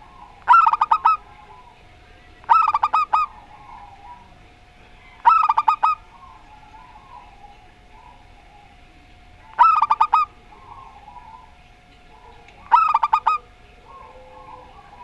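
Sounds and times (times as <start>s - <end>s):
doves cooing loudly: 0.0s - 15.0s
soft low cooing: 0.0s - 15.0s.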